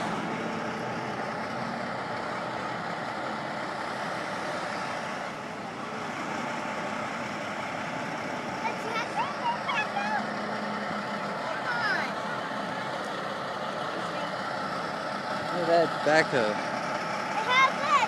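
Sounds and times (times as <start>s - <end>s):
traffic rumble and hiss: 0.0s - 18.0s.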